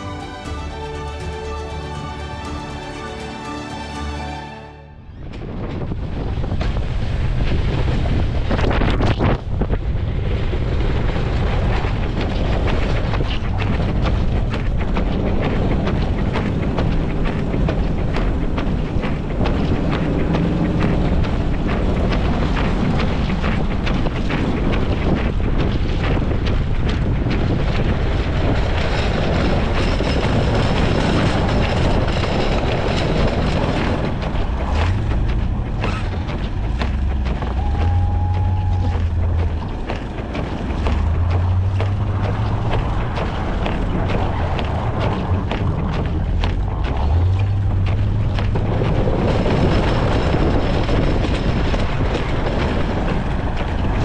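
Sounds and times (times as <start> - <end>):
heavy wind noise: 0.0 - 54.0
truck engine running: 5.2 - 54.0.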